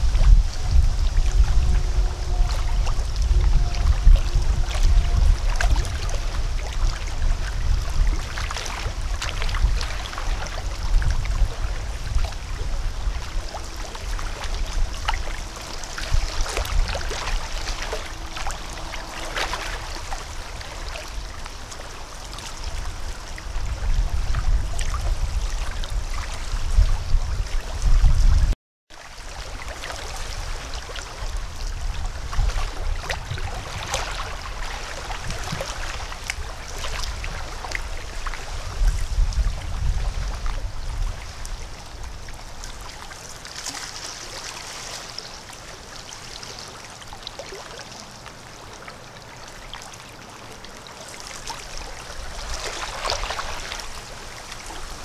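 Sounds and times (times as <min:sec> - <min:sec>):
small splashes: 0:00.0 - 0:23.8, 0:29.0 - 0:55.0
water lapping at shore: 0:00.0 - 0:55.0
wind rumble on microphone: 0:00.0 - 0:55.0.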